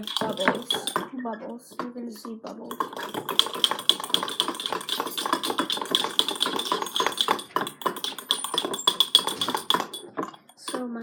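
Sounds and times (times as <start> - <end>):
forks clinking against glass jars: 0.0 - 11.0.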